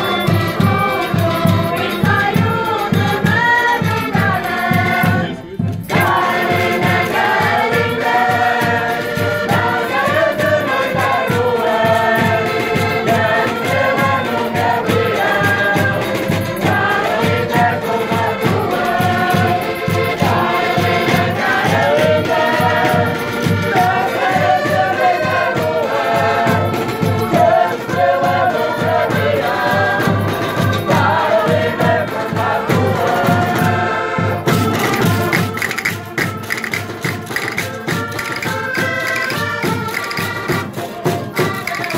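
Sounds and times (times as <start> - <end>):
chorus of voices singing: 0.0 - 41.9
tambourine and drums beat: 0.0 - 41.9.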